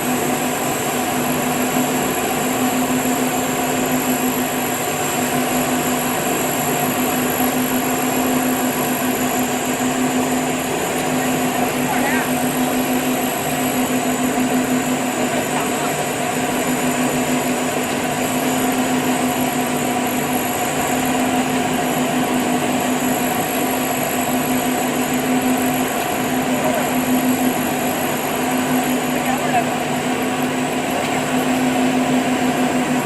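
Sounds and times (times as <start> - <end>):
grinding machine humming and whirring: 0.0 - 33.0.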